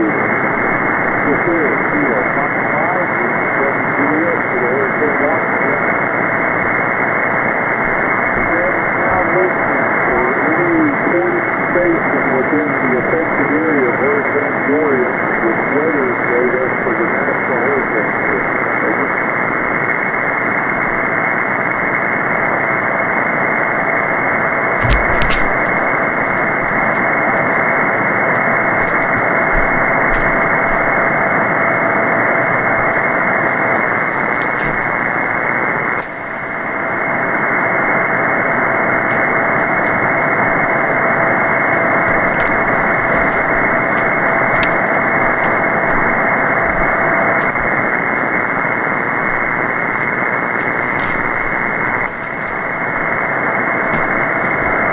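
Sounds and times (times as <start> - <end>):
radio receiver hiss and static: 0.0 - 54.9.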